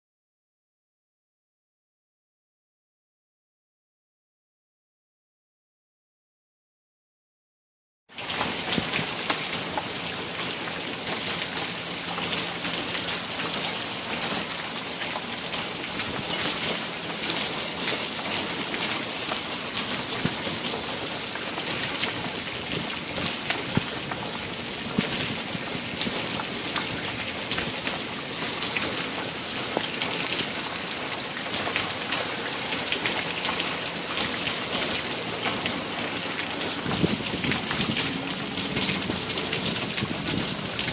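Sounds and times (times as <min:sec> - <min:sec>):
heavy rain falling: 0:08.1 - 0:40.9.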